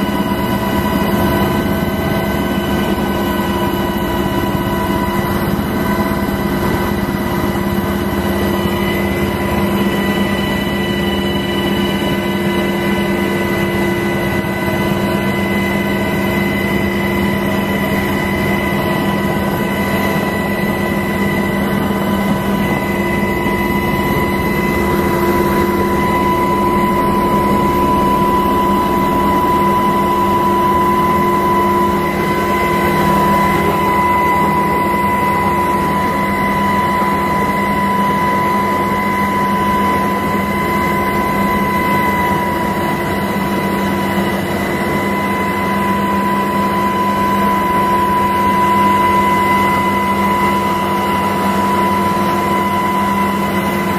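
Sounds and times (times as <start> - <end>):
aircraft engine drone: 0.0 - 53.9
constant whining tones: 0.0 - 53.9.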